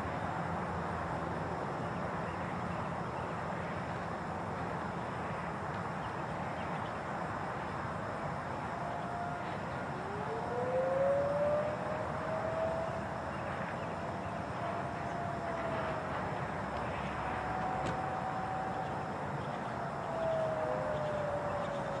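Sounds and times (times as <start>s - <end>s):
distant warning sirens wailing: 0.0s - 22.0s
steady background noise: 0.0s - 22.0s.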